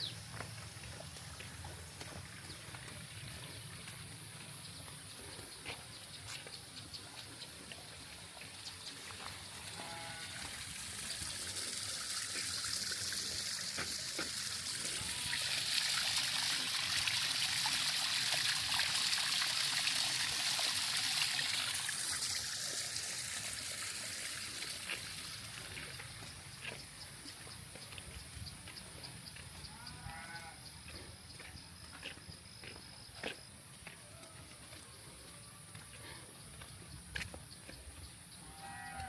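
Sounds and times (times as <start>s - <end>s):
water trickling and splashing: 0.0s - 38.2s.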